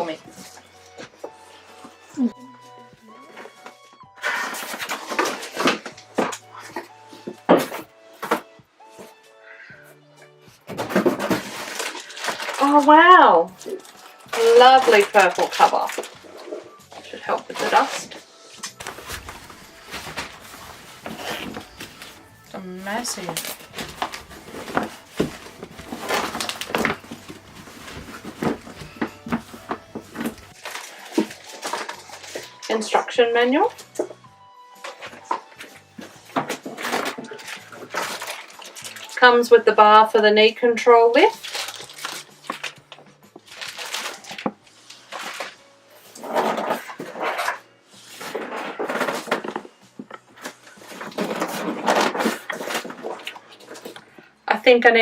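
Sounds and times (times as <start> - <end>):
packaging rustling and knocking: 3.2 - 9.2, 10.4 - 32.7, 33.7 - 39.2, 41.3 - 54.3.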